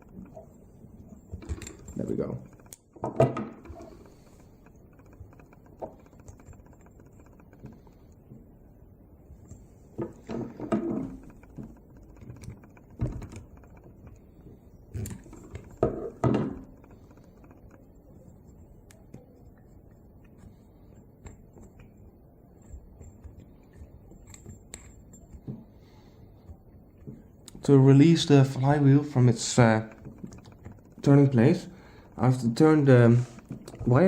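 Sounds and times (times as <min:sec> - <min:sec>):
metal engine parts clicking and knocking: 0:00.0 - 0:34.0.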